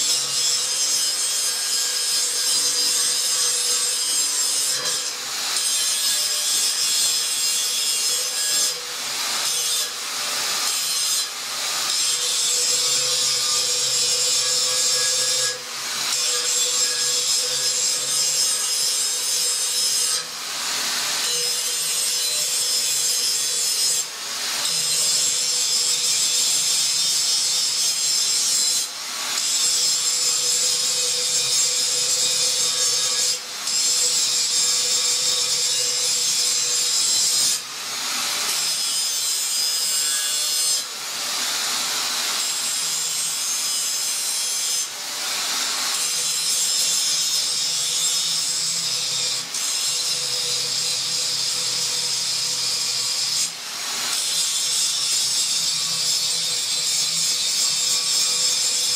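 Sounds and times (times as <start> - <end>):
angle grinder grinding metal: 0.0 - 58.9.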